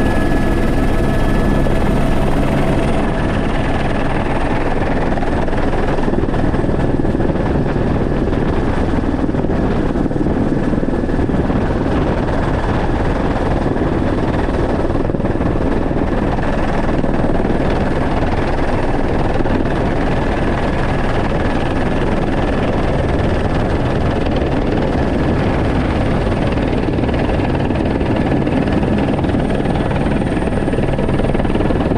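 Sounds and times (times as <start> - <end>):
helicopter rotor and engine noise: 0.0 - 31.9.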